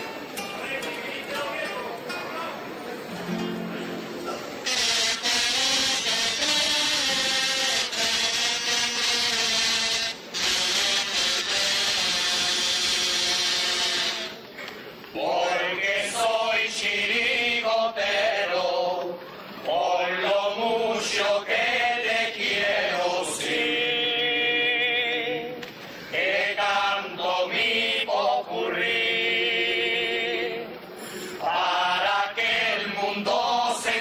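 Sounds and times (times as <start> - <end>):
male chorus singing: 4.7 - 9.6, 10.4 - 14.4, 15.1 - 34.0.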